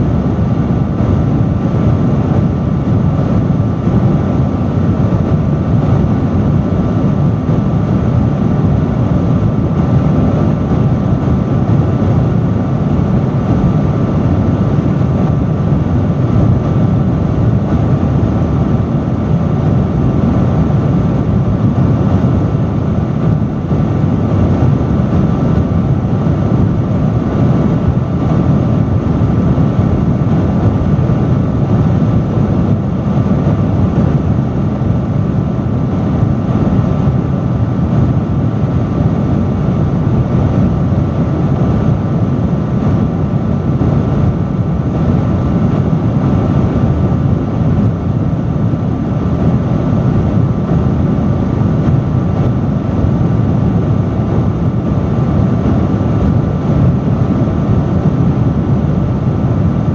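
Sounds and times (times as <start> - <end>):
faint steady hum: 0.0 - 59.9
industrial fan running: 0.0 - 59.9.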